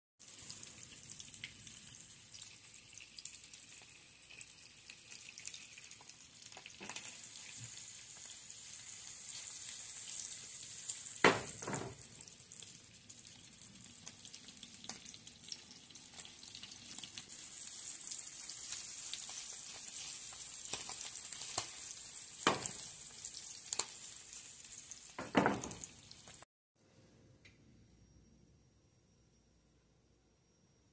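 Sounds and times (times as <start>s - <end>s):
fish sizzling in oil: 0.2s - 26.5s.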